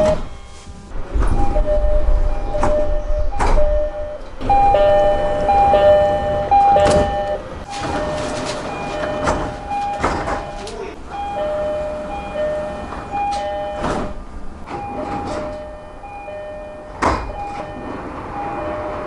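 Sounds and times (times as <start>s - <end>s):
three-tone train door chime: 0.0s - 19.0s
train knocks: 1.0s - 19.0s.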